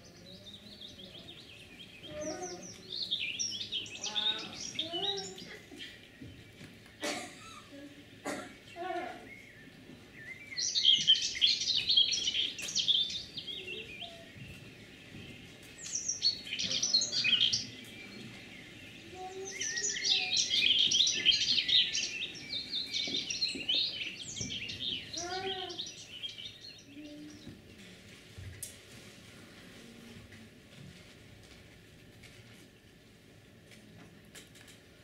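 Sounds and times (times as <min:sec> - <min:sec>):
birds chirping and trilling: 0:00.0 - 0:30.4.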